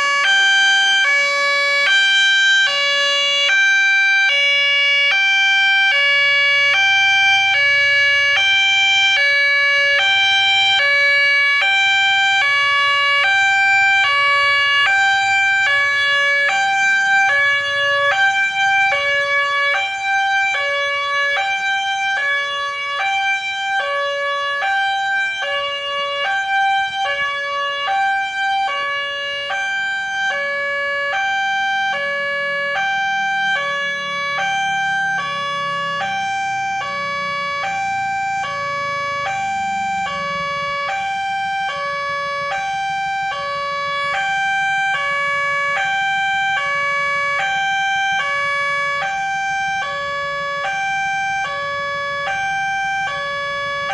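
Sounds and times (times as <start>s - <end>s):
level-crossing two-tone siren: 0.0s - 53.9s.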